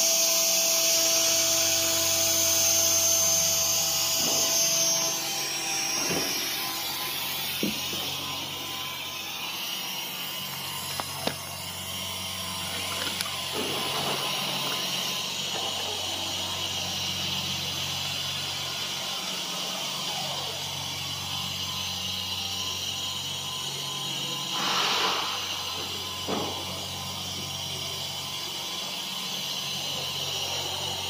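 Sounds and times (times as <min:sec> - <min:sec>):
machine drives humming: 0:00.0 - 0:31.0
router spindle cutting foam: 0:00.0 - 0:31.0.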